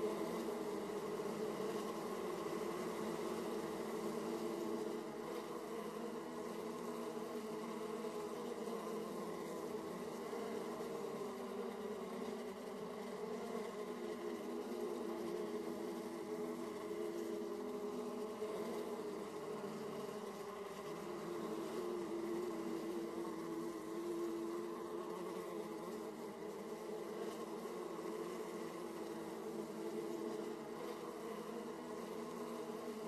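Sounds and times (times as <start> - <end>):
honeybees buzzing: 0.0 - 33.0.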